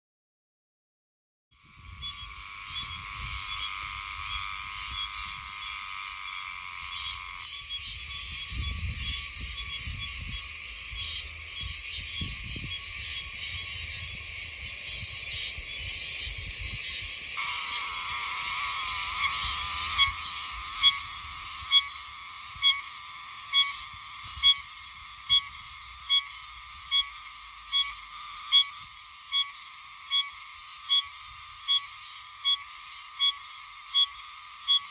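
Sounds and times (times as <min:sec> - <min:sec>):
cicada buzzing: 0:01.5 - 0:34.9.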